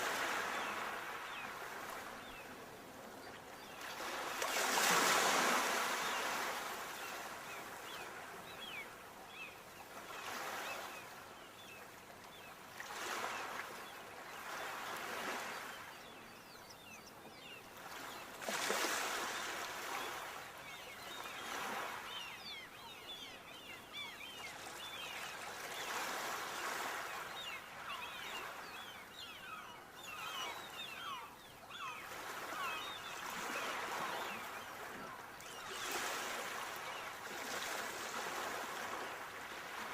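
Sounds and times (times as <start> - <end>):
sea waves breaking on shore: 0.0 - 11.2, 17.8 - 39.9.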